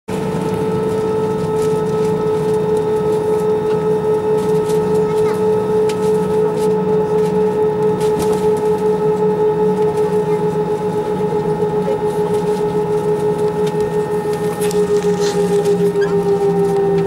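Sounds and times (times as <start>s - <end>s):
jet engine whine: 0.1s - 17.0s
low pulsing rumble: 0.1s - 17.0s.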